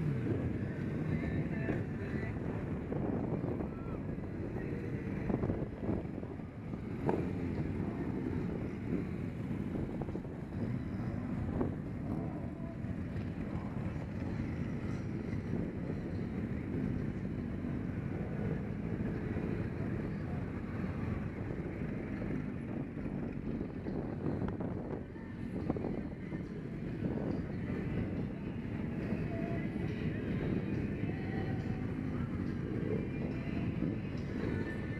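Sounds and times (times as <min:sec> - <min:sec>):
motorcycle engines pulling away: 0:00.0 - 0:34.9
wind noise on microphone: 0:00.0 - 0:34.9.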